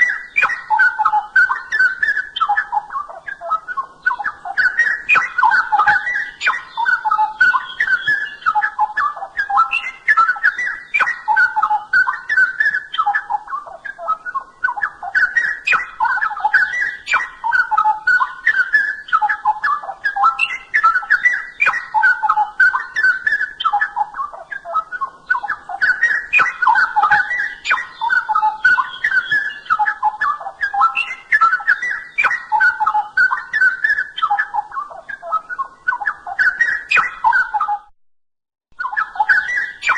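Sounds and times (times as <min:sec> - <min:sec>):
bulbul singing warbled song: 0:00.0 - 0:37.9, 0:38.8 - 0:39.9.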